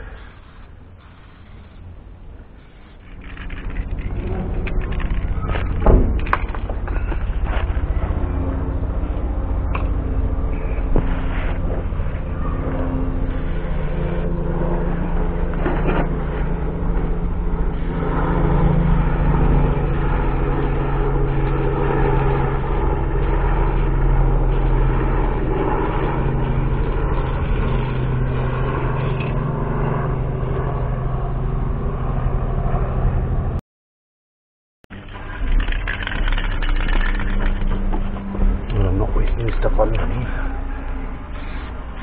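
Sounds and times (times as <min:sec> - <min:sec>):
engine-like drone: 0:00.0 - 0:33.6, 0:34.9 - 0:42.0.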